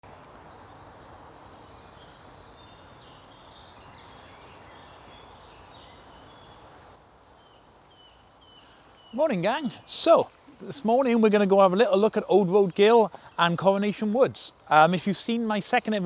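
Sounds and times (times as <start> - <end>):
small birds chirping: 0.0 - 16.0
woodland background hiss: 0.0 - 16.0.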